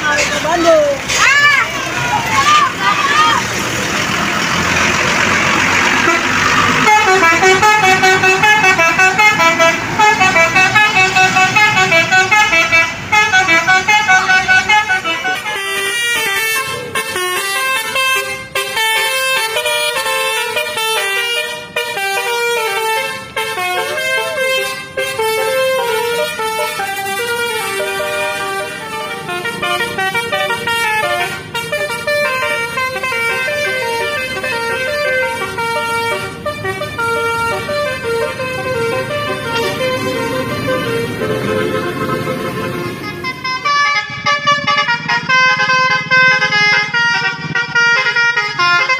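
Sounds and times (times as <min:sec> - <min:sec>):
musical bus horns playing melodies: 0:01.1 - 0:48.9.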